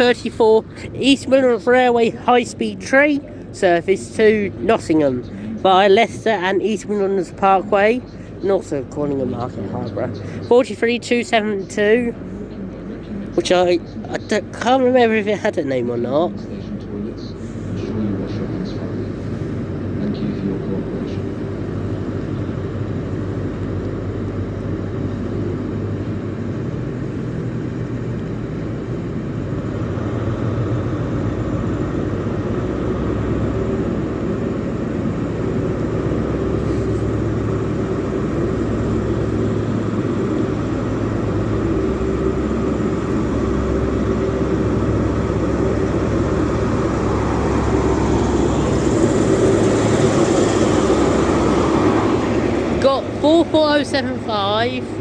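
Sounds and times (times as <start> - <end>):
train diesel engine drone: 0.0 - 55.0.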